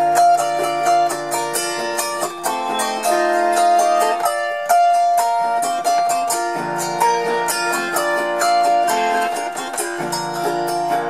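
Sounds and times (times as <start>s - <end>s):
plucked string instrumental: 0.0s - 11.0s.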